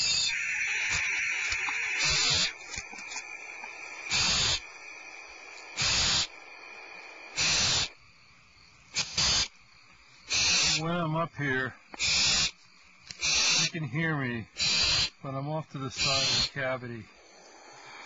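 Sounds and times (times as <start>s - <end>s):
owl nestlings hissing: 0.0s - 11.2s, 11.9s - 18.0s.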